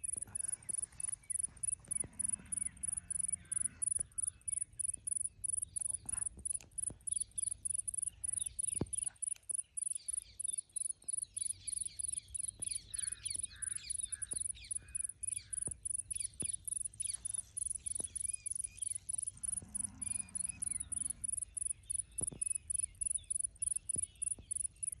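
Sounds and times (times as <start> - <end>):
birds chirping: 0.0 - 25.0
sharp clicks: 0.0 - 25.0.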